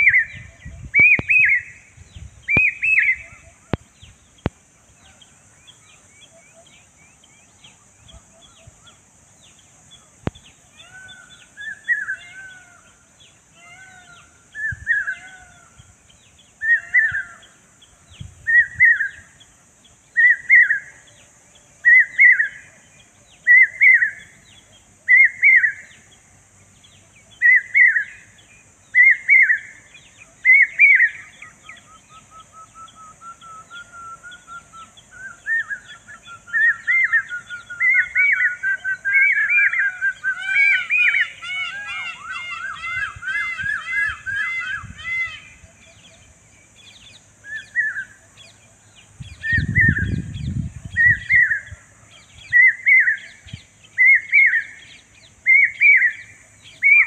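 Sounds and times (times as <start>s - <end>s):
bird calling: 0.0s - 57.0s.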